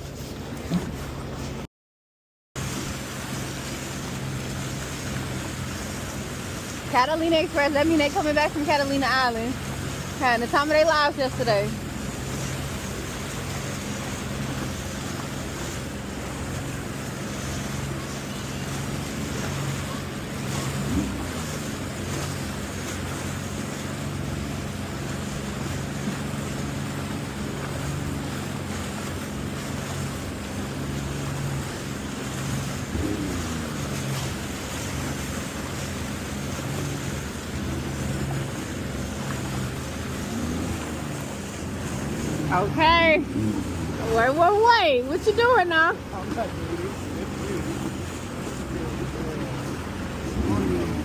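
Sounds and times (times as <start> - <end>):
jet ski engine running: 0.0 - 1.7, 2.6 - 51.0
water noise: 0.0 - 1.7, 2.6 - 51.0
wind: 0.0 - 1.7, 2.6 - 51.0.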